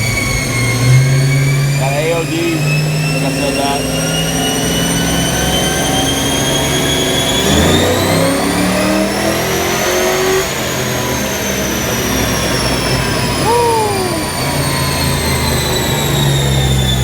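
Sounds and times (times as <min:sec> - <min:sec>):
car engine and drivetrain whine: 0:00.0 - 0:13.6.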